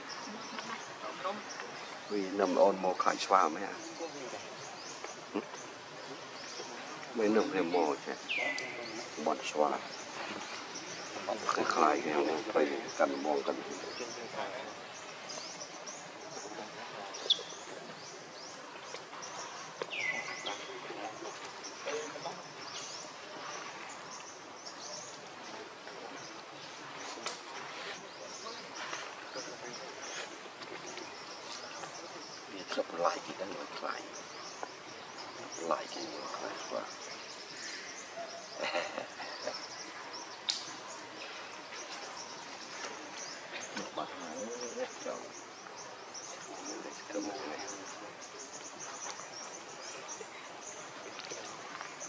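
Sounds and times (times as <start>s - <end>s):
bird calls: 0.0s - 52.0s.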